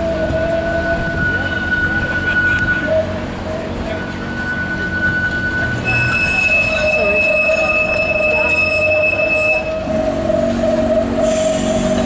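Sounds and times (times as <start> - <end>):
tram wheels squealing on track: 0.0 - 12.0.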